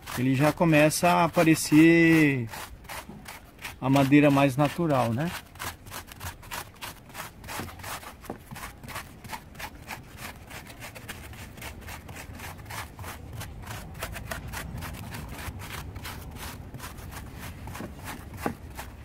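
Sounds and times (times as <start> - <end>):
paintbrush swishing on rough wood: 0.0 - 19.0.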